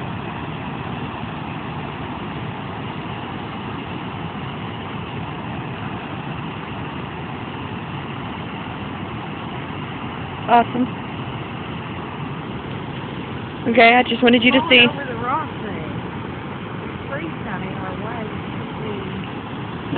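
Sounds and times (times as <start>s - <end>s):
water rushing through floodgates: 0.0s - 19.9s.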